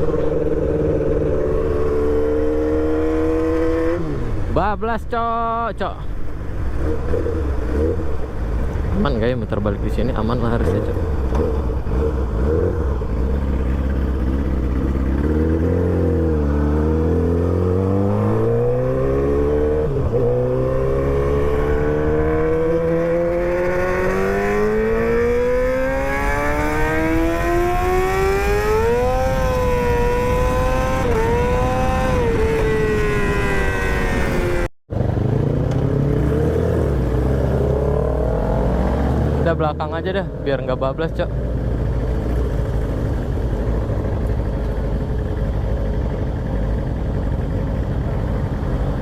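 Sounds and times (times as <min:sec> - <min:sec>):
motorcycle engine revving: 0:00.0 - 0:04.5, 0:06.6 - 0:09.0, 0:09.8 - 0:49.0
road noise: 0:00.0 - 0:49.0.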